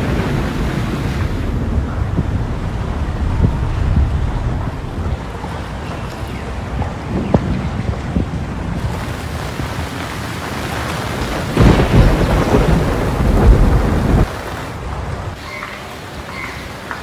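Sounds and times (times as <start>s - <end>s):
deep thunder roll: 0.0s - 5.3s, 6.8s - 15.4s
rain hiss: 0.0s - 5.4s, 8.8s - 17.0s.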